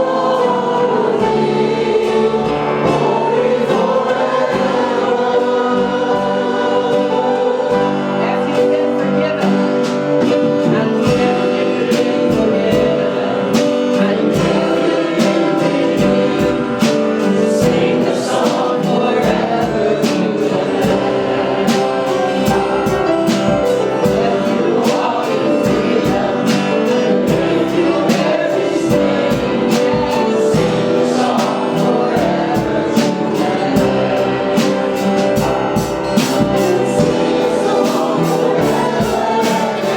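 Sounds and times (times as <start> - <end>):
drum hits: 0.0 - 8.2, 9.4 - 39.9
band's sustained chords: 0.0 - 39.9
voices singing together: 0.0 - 39.9.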